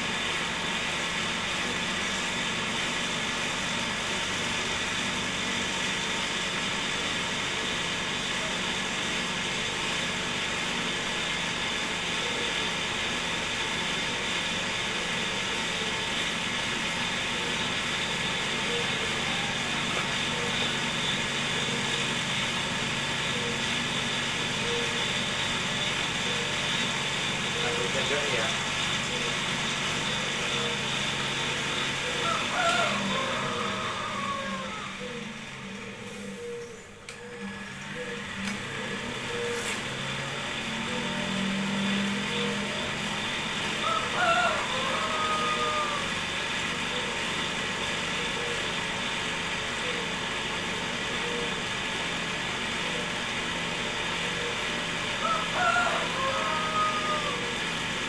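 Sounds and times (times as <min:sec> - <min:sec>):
cotton candy machine whirring: 0:00.0 - 0:58.0.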